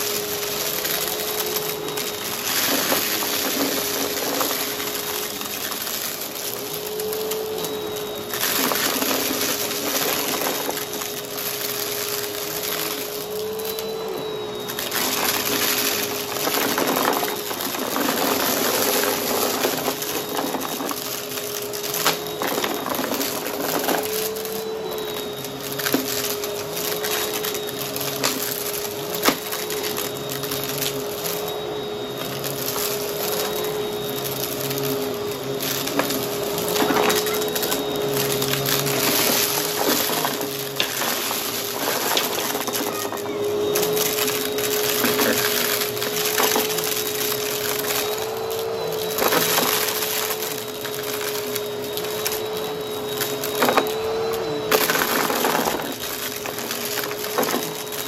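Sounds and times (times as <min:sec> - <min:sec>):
debris clicking in vacuum: 0:00.0 - 0:58.0
vacuum cleaner running: 0:00.0 - 0:58.0.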